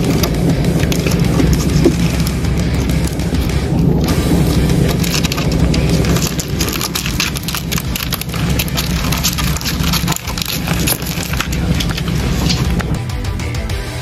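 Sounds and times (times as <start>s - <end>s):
beetles scrabbling on bark: 0.0s - 13.1s
steady low rumble: 0.0s - 14.0s.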